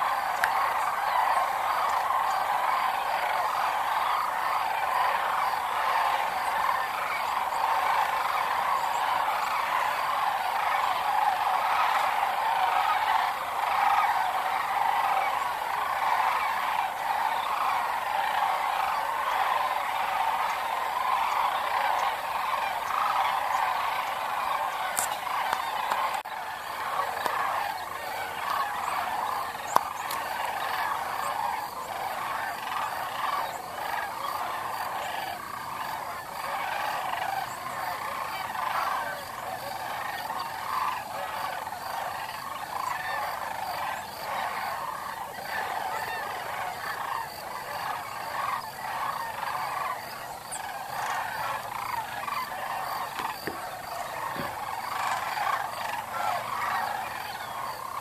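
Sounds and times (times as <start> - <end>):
chorus of wetland animals: 0.0 - 58.0.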